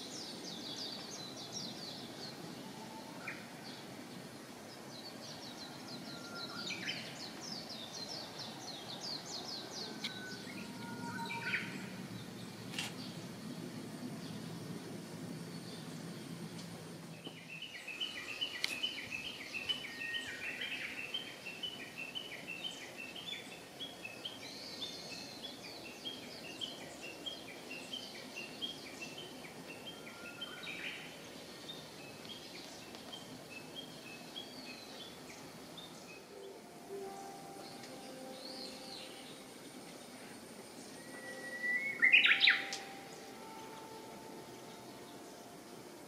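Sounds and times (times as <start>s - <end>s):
outdoor background noise: 0.0s - 46.0s
songbird chirping: 0.0s - 46.0s.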